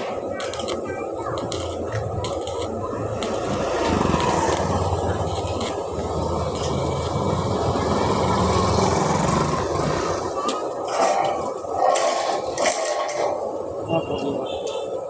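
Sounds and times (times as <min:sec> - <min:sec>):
electric arc welding crackle: 0:00.0 - 0:13.4.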